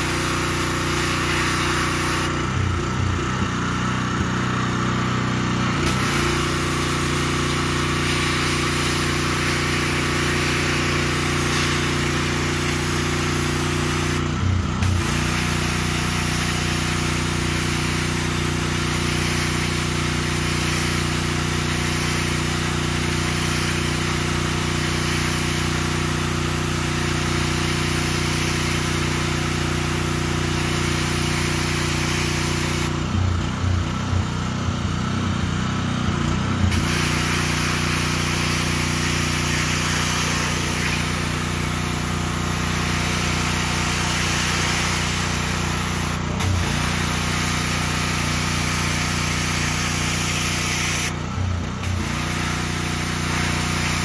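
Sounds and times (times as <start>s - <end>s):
high-pressure water jet hissing: 0.0s - 2.6s, 5.8s - 33.0s, 36.7s - 54.0s
pressure washer engine running: 0.0s - 54.0s.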